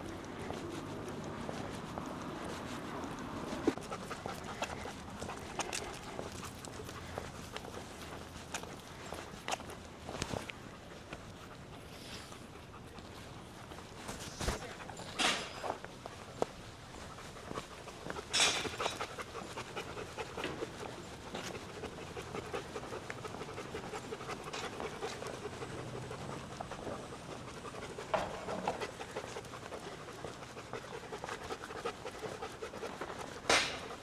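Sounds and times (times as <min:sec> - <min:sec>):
dog panting: 0:00.0 - 0:34.0.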